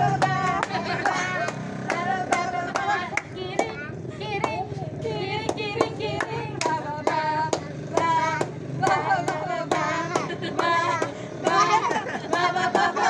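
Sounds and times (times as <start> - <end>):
hands clapping on the beat: 0.2 - 3.8, 4.4 - 4.7, 5.4 - 13.0.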